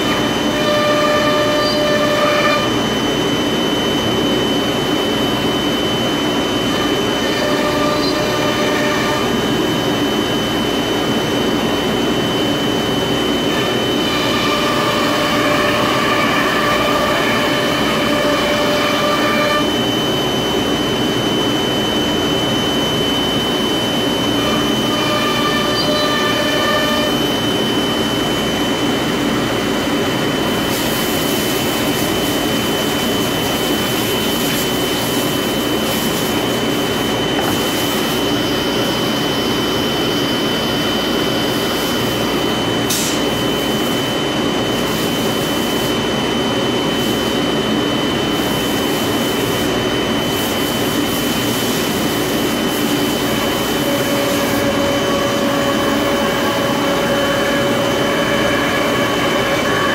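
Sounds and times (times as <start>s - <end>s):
high-pitched whine: 0.0s - 59.9s.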